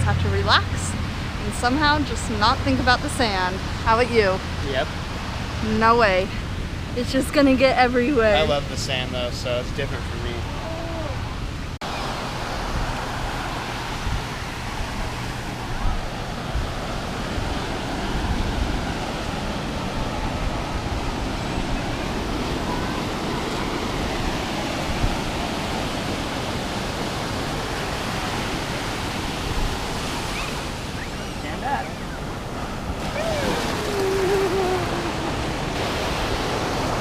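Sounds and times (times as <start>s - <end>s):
ocean surf washing on beach: 0.0s - 37.0s
wind rumble on microphone: 0.0s - 37.0s.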